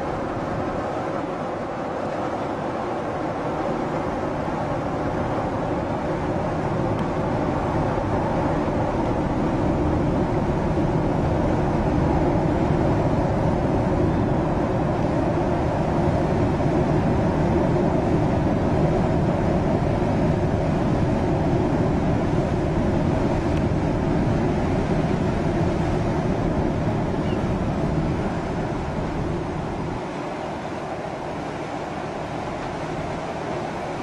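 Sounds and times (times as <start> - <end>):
churning water: 0.0 - 34.0
ferry engines running: 0.0 - 34.0
wind buffeting microphone: 0.0 - 34.0.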